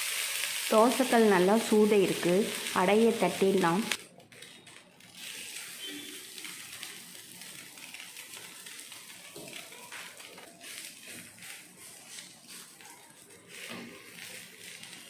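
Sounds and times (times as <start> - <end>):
dough sizzling on griddle: 0.0 - 15.0.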